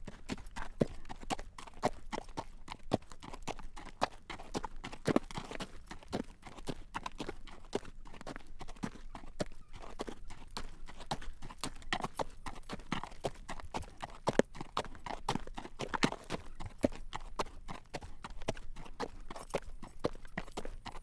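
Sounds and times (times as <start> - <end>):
horse hooves clip-clopping on road: 0.0 - 21.0.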